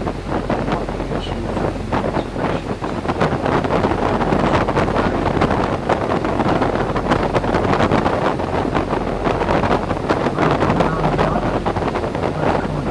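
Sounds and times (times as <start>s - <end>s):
steady low drone: 0.0s - 12.9s
wind buffeting microphone: 0.0s - 12.9s.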